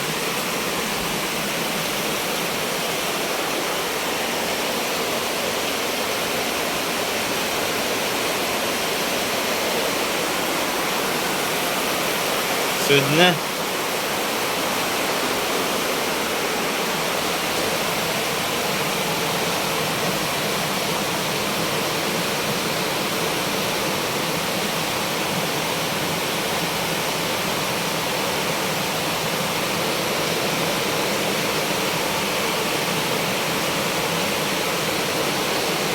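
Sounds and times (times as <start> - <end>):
rushing water: 0.0 - 35.9.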